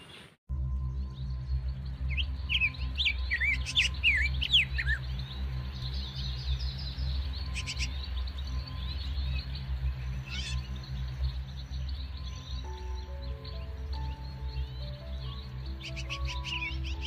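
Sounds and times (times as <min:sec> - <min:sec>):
birds chirping: 0:00.0 - 0:17.0
low background music: 0:00.5 - 0:17.0.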